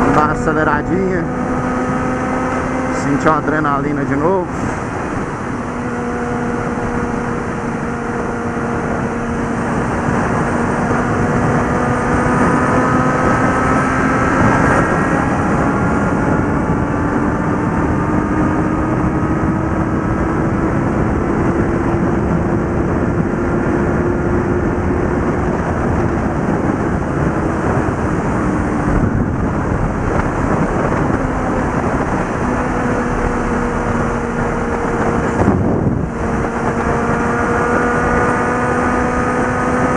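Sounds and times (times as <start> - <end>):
motorcycle engine under throttle: 0.0 - 39.9
wind rush on microphone: 0.0 - 39.9.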